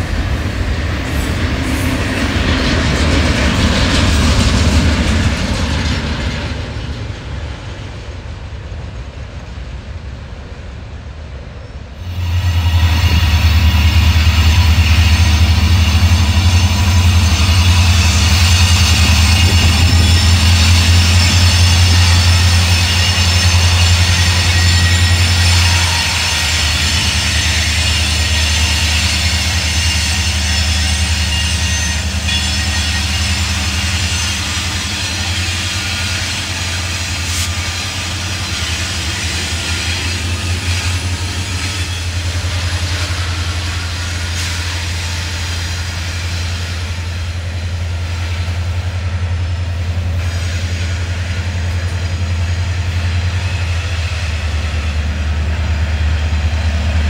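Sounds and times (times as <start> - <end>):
locomotive engine drone: 0.0 - 57.0
train on rails: 0.0 - 57.0.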